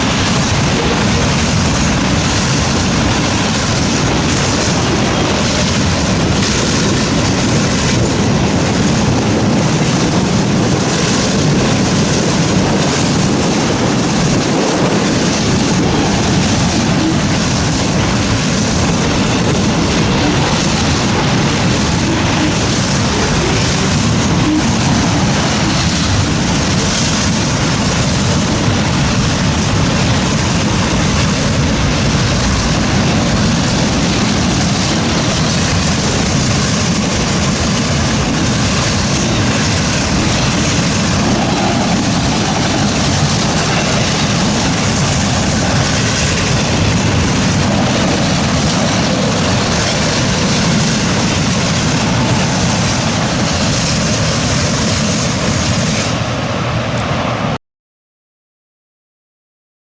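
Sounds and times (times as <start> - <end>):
train wheels rumbling on rails: 0.0 - 57.6.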